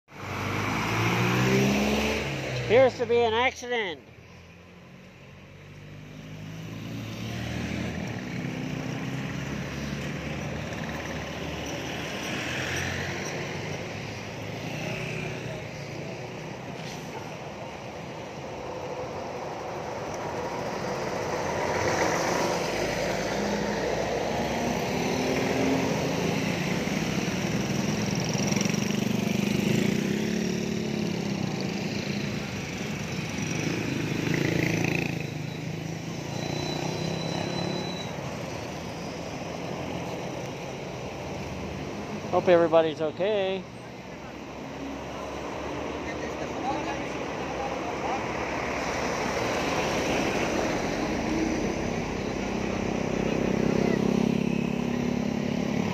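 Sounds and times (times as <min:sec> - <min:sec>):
road traffic engine noise: 0:00.0 - 0:55.9
large vehicle passing: 0:04.7 - 0:55.9.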